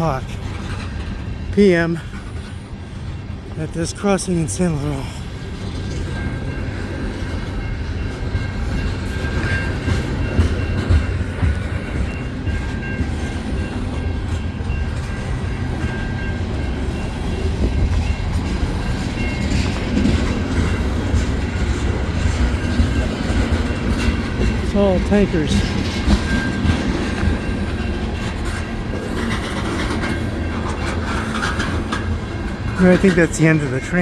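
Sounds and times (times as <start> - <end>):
train low rumble: 0.0 - 34.0
train wheels clacking on rails: 0.0 - 34.0.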